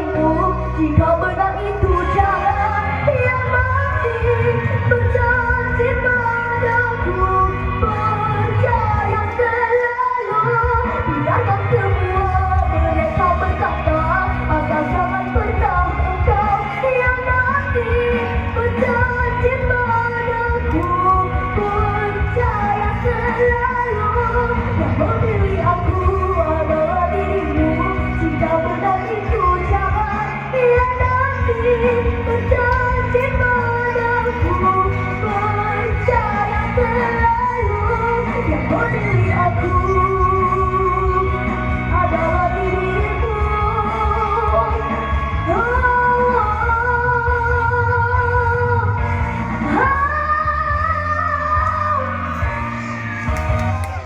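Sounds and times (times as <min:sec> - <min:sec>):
pop-rock band with singing: 0:00.0 - 0:54.0.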